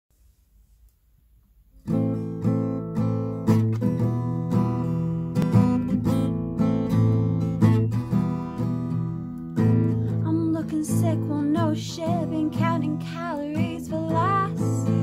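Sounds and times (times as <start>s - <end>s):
acoustic guitar strumming: 1.8s - 15.0s.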